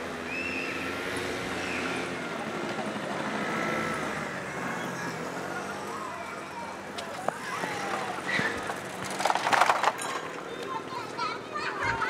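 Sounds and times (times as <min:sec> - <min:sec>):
scooter engines running: 0:00.0 - 0:12.0.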